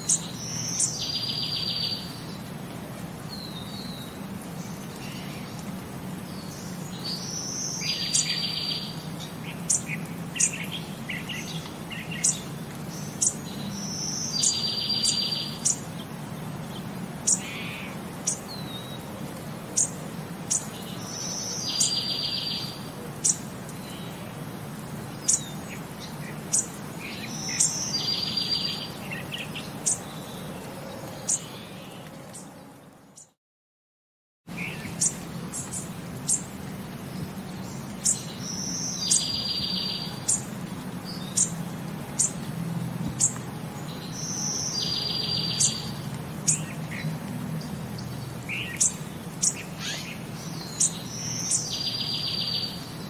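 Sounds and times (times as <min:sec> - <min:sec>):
birds chirping: 0:00.0 - 0:33.4, 0:34.5 - 0:53.0.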